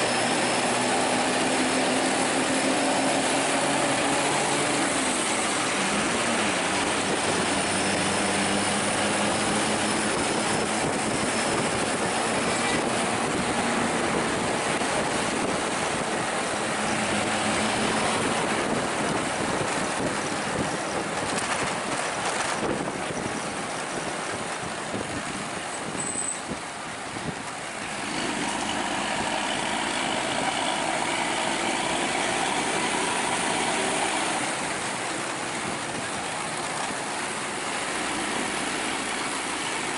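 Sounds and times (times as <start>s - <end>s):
traffic engines running: 0.0s - 39.9s
wind and tyre noise: 0.0s - 39.9s.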